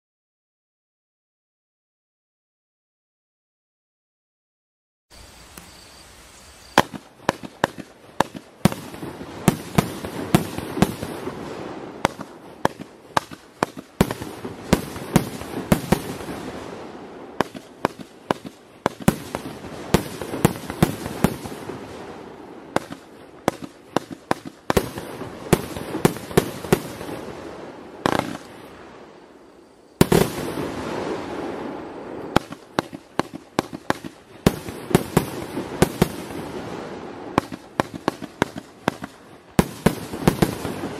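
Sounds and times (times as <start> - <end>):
fireworks shots and bursts: 6.6 - 29.2, 30.0 - 40.9.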